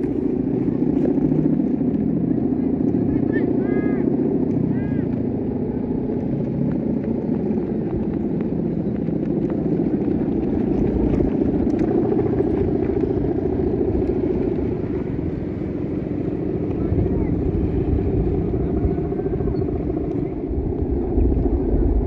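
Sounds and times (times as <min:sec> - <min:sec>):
kite hummer bow buzzing drone: 0:00.0 - 0:22.0.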